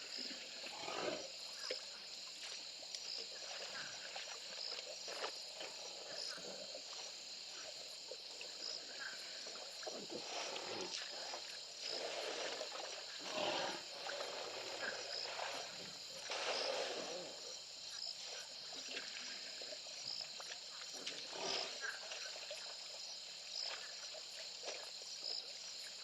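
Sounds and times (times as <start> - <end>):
elephants drinking splashing: 0.0 - 17.6, 18.2 - 25.2
insects chirring: 0.0 - 26.0.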